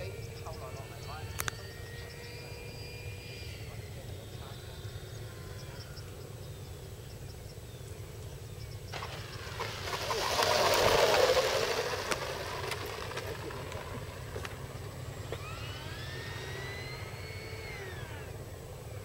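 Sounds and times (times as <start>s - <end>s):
model jet ducted fan rushing: 0.0s - 6.8s, 8.2s - 19.0s.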